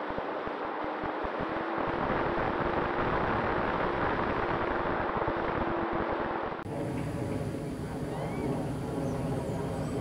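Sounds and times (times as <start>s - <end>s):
motor and propeller tone: 0.0s - 10.0s.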